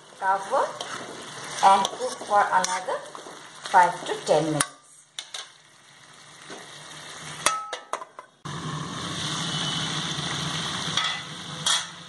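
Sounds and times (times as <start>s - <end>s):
food sizzling in oil: 0.0s - 7.8s, 8.5s - 12.0s.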